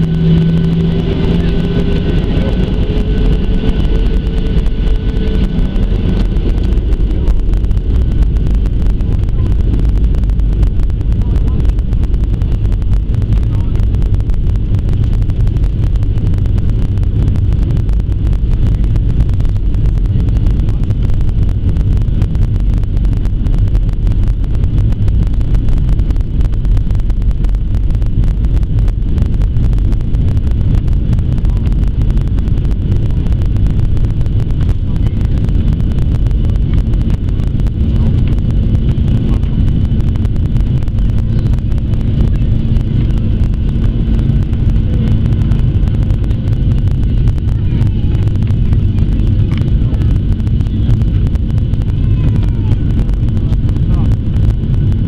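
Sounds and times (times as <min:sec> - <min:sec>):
jet engine and airflow roar: 0:00.0 - 0:55.0
low steady hum: 0:00.0 - 0:55.0.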